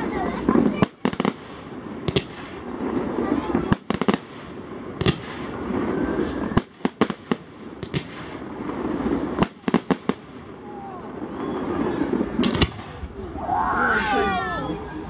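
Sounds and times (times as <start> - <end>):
firework bangs: 0.0 - 14.9.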